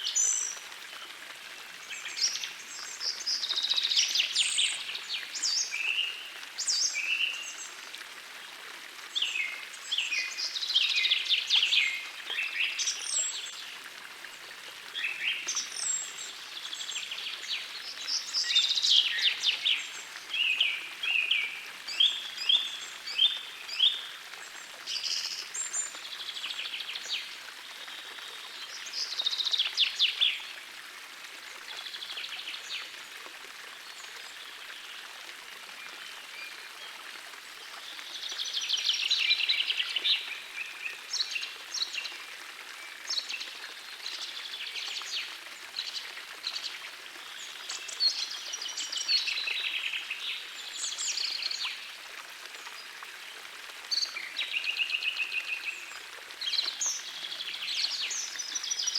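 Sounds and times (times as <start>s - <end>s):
gentle stream rushing: 0.0s - 58.9s.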